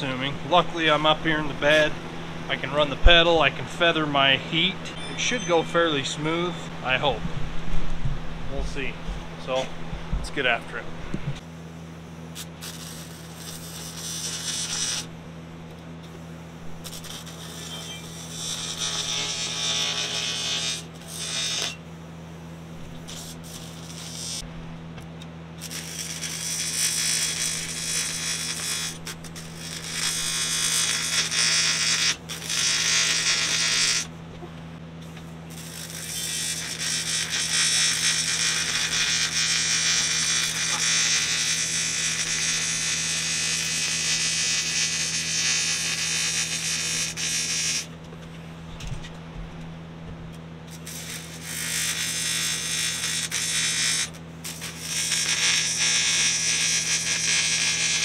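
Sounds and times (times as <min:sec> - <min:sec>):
welding arc buzzing: 0:00.0 - 0:48.1, 0:50.6 - 0:58.0
steady low hum: 0:00.0 - 0:58.0.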